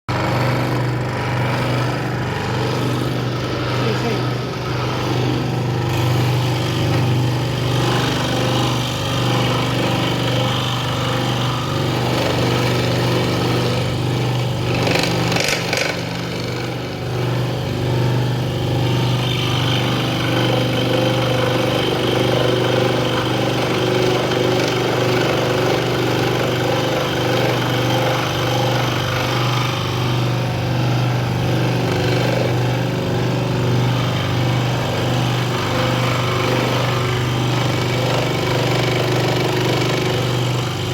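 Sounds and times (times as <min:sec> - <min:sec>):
scroll saw cutting wood: 0:00.1 - 0:40.9.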